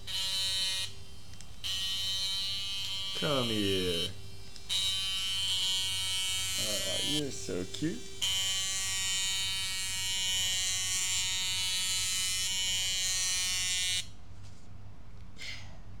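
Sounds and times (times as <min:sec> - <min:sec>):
tiny vibration motor buzzing: 0:00.0 - 0:14.1.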